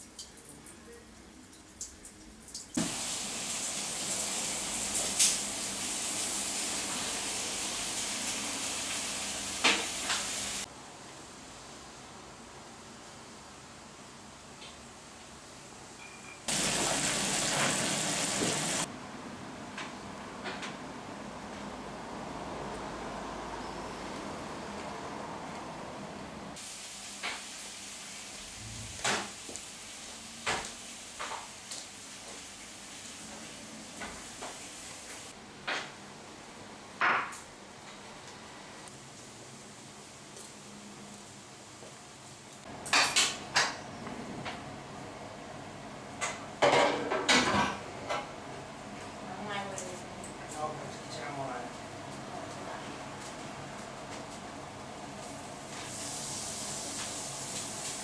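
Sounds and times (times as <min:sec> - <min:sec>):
steady kitchen hissing: 0:00.0 - 0:58.0.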